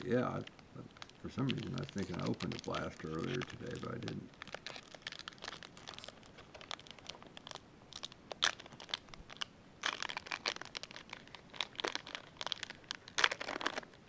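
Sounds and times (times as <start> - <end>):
card pack wrapper crinkling and tearing: 0.0 - 14.0.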